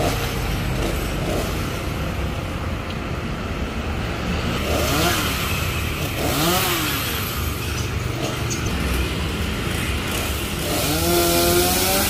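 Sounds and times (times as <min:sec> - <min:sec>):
two-stroke chainsaw running: 0:00.0 - 0:02.5, 0:04.5 - 0:12.0.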